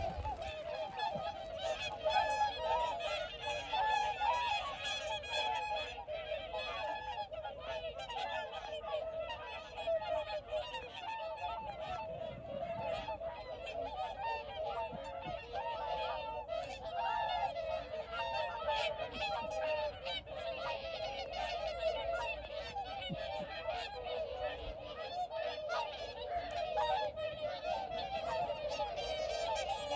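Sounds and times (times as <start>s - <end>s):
swans honking: 0.0s - 29.9s.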